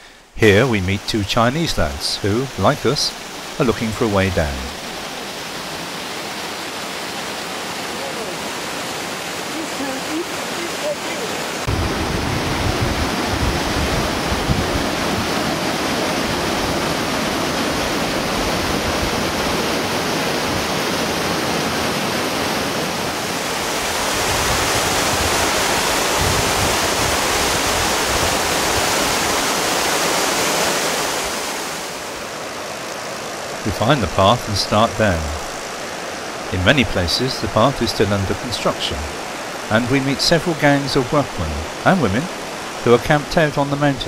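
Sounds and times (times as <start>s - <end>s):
waterfall rushing over rocks: 0.0s - 44.0s.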